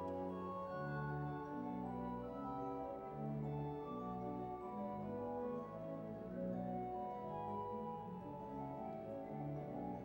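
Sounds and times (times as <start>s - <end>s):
church pipe organ: 0.0s - 10.0s.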